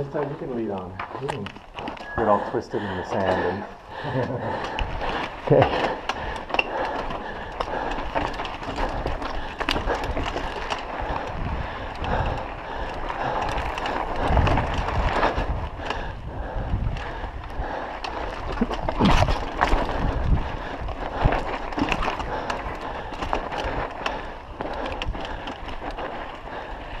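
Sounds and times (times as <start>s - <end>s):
bike clicks and rattles: 0.0s - 27.0s
bike tyres on dirt trail: 0.0s - 27.0s.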